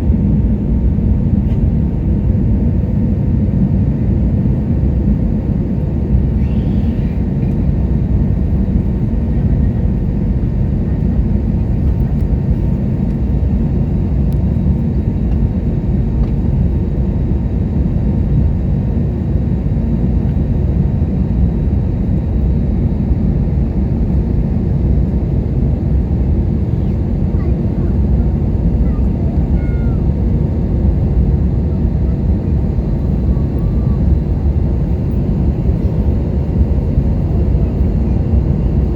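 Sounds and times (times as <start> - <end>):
airliner engines roaring: 0.0 - 38.9.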